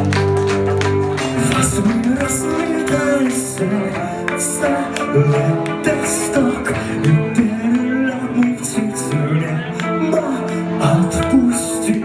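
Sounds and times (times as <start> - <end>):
guitars: 0.0 - 12.0
person singing: 1.0 - 12.0.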